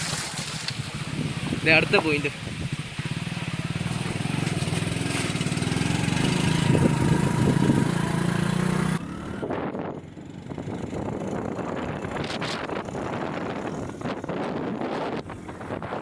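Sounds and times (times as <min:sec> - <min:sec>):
wind noise on microphone: 0:00.0 - 0:03.2, 0:03.8 - 0:08.4, 0:09.2 - 0:16.0
motorcycle engine running: 0:00.5 - 0:16.0.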